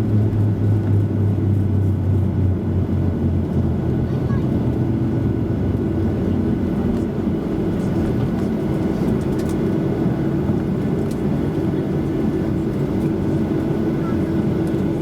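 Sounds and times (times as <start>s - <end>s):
airplane engines and airflow rumble: 0.0s - 15.0s.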